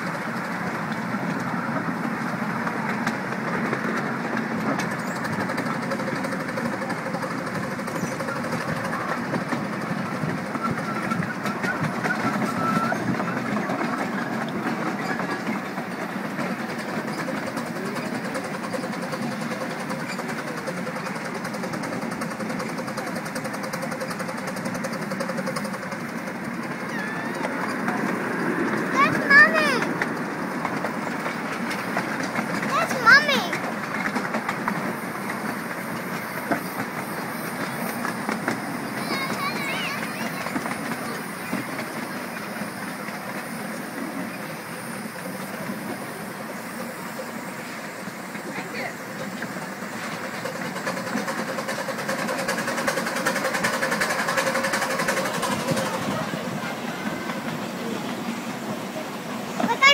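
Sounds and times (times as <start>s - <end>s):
fast even clicks of wheels: 0.0s - 59.9s
miniature train rumble: 0.0s - 59.9s.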